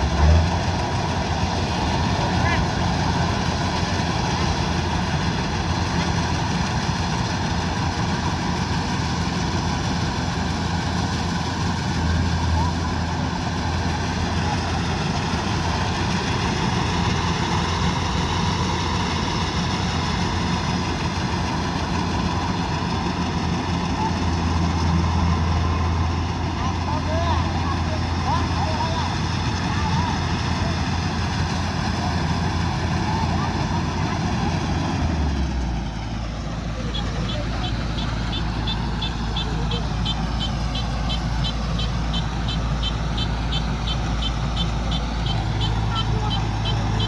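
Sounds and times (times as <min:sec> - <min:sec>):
diesel engine running steadily: 0:00.0 - 0:47.0.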